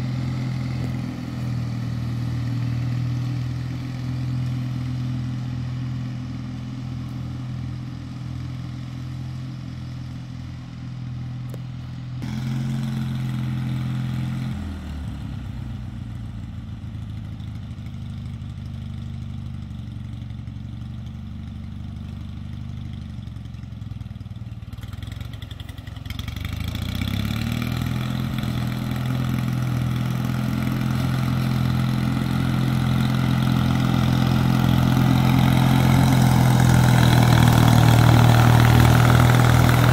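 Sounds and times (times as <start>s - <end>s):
garden tractor engine mowing: 0.0s - 16.2s, 16.9s - 39.9s.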